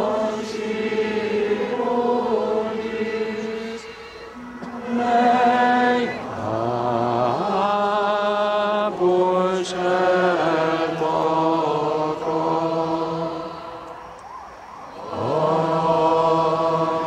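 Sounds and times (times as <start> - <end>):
person singing slow melody: 0.0 - 14.1, 14.9 - 17.0.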